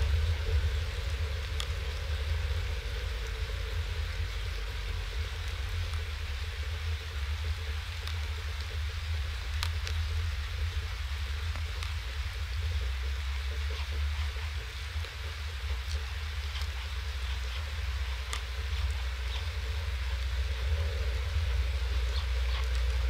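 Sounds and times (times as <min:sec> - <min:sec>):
constant low rumble: 0:00.0 - 0:23.0
steady rain hiss: 0:00.0 - 0:23.0.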